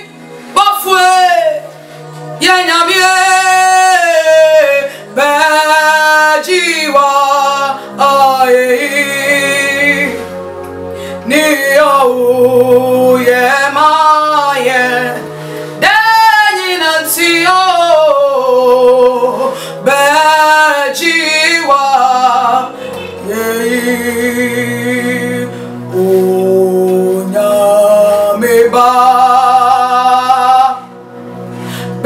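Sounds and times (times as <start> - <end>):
woman singing worship song: 0.0 - 1.8, 2.4 - 10.3, 11.2 - 30.9
instrumental backing of low notes: 0.0 - 32.0.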